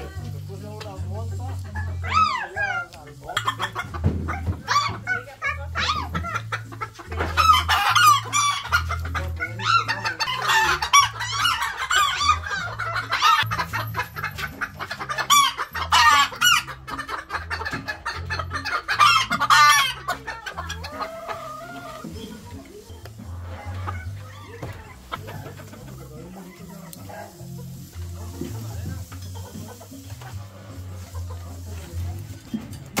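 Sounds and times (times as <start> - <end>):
background music: 0.0 - 33.0
chickens clucking and squawking: 0.0 - 33.0
roosters crowing: 1.8 - 28.4.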